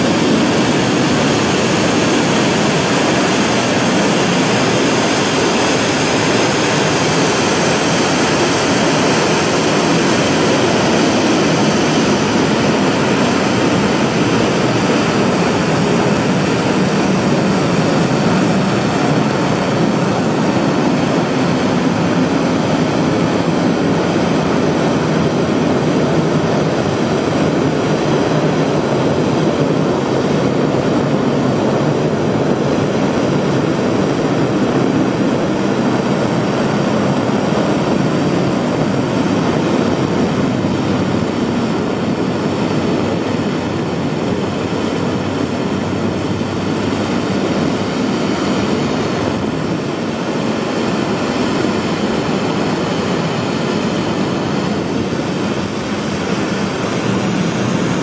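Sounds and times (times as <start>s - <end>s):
rocket engine roaring: 0.0s - 58.0s.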